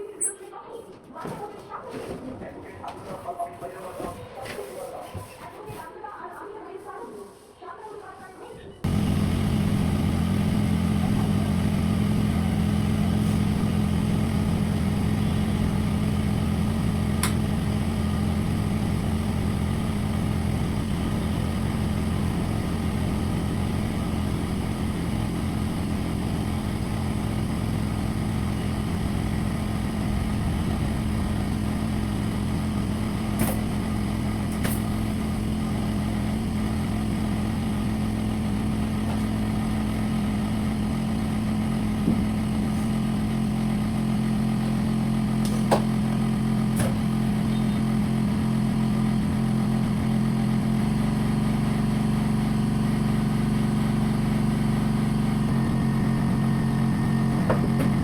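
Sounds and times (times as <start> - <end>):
low motor-like hum: 8.8 - 58.0.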